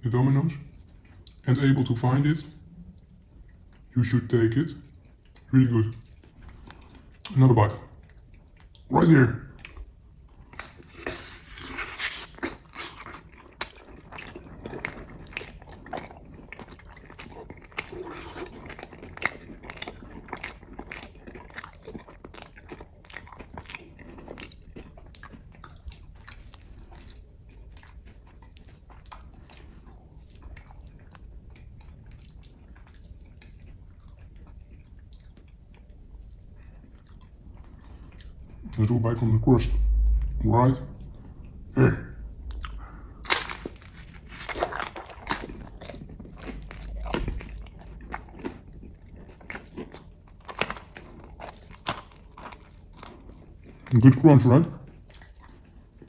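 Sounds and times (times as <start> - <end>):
person chewing pizza: 0.0 - 56.0.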